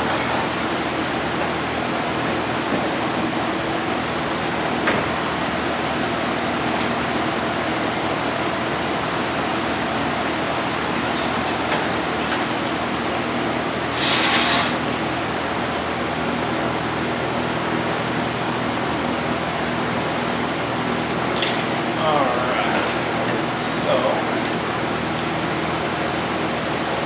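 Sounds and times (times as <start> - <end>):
mechanical hum and hiss: 0.0 - 27.0.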